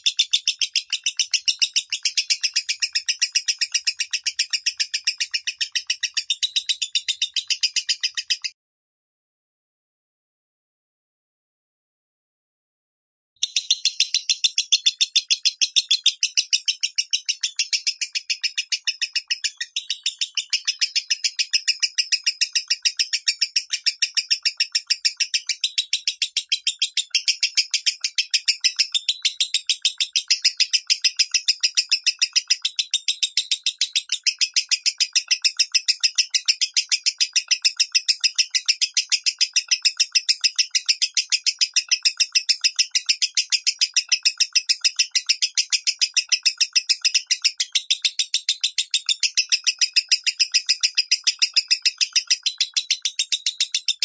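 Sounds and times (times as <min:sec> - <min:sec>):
lovebird chirping: 0:00.0 - 0:08.6, 0:13.4 - 0:54.0.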